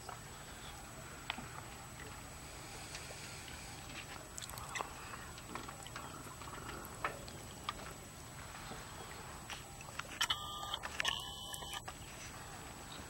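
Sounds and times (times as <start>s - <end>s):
open-water ambience: 0.0s - 13.0s.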